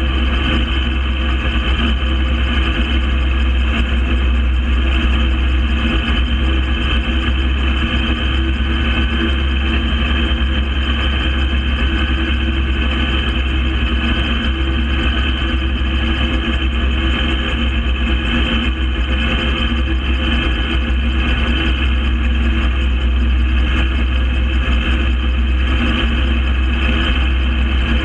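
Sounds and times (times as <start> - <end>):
gyrocopter engine running: 0.0 - 28.0.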